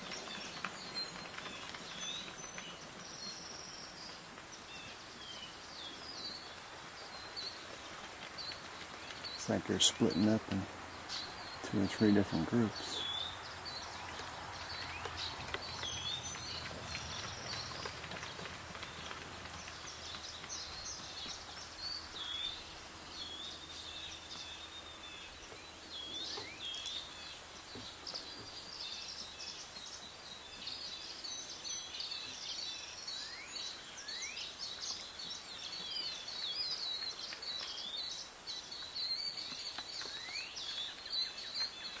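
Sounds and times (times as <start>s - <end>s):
outdoor background hiss: 0.0s - 42.0s
small birds chirping: 0.0s - 42.0s.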